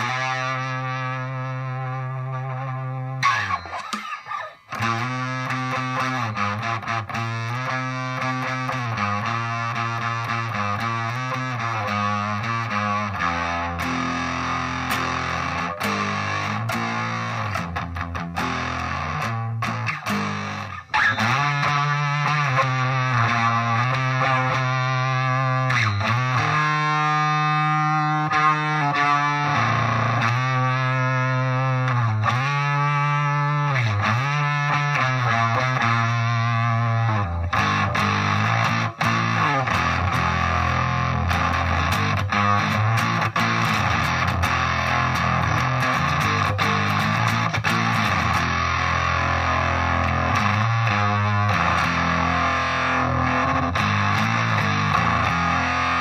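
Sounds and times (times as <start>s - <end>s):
fuzz distorted electric guitar: 0.0s - 56.0s.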